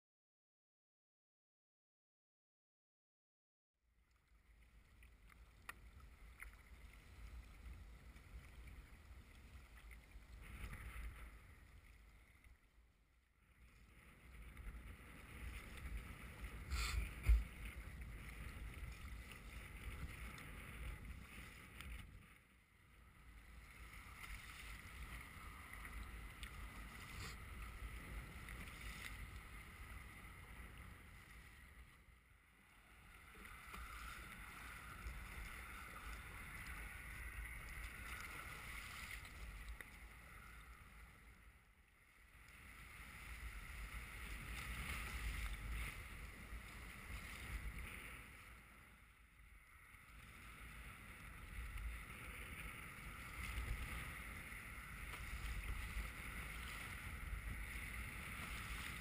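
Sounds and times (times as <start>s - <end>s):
wind and choppy water: 3.9s - 59.0s.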